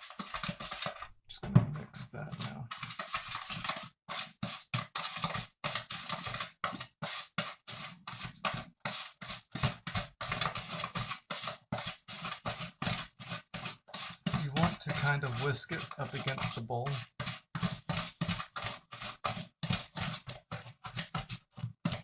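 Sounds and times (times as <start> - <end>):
utensil scraping a bowl: 0.0 - 1.2, 1.8 - 22.0.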